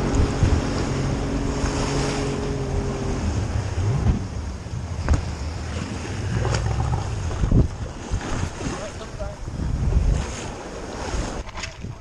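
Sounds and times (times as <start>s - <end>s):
boat engine humming: 0.0s - 11.0s
sea washing around boat: 0.0s - 12.0s
wind buffeting microphone: 0.0s - 12.0s.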